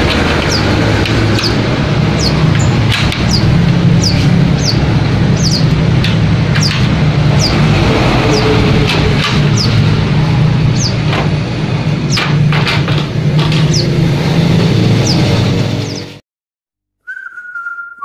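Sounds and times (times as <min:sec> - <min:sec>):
caged birds chirping: 0:00.0 - 0:16.2.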